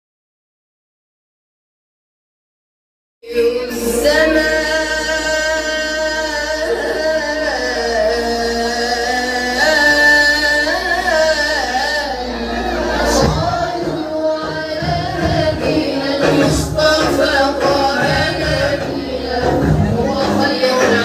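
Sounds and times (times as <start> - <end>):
person singing melismatically: 3.3 - 21.0.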